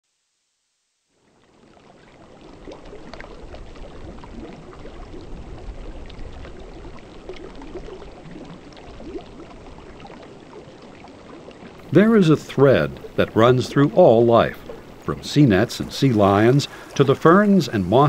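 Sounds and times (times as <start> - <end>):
water bubbling: 1.2 - 18.0.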